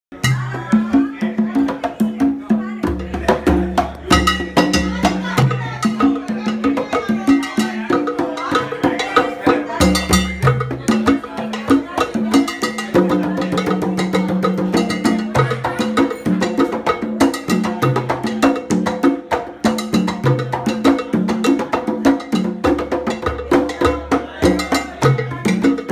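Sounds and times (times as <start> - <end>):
band playing rumba music: 0.1 - 25.9.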